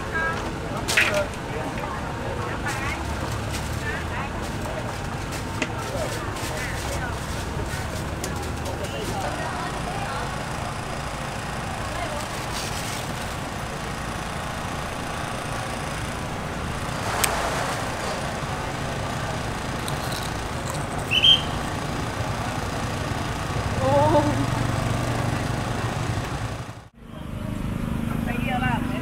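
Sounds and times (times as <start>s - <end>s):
crowd hubbub: 0.0s - 29.0s
motorbike traffic: 0.0s - 29.0s.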